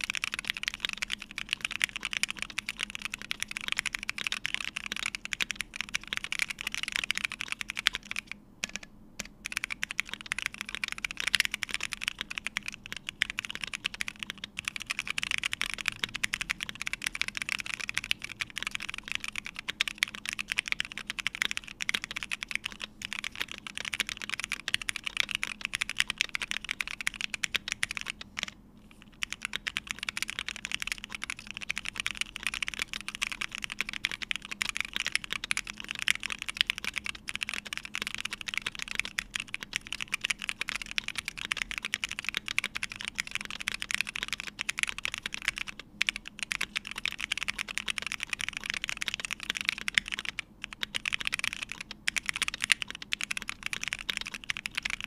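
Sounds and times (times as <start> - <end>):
fast typing on mechanical keyboard: 0.0 - 55.0.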